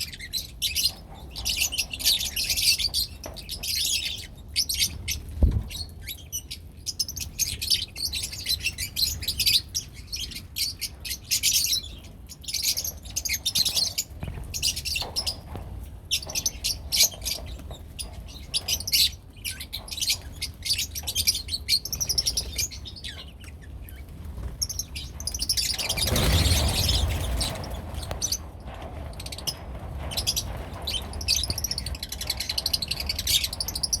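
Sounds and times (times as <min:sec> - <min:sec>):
lovebirds chirping: 0:00.0 - 0:28.5.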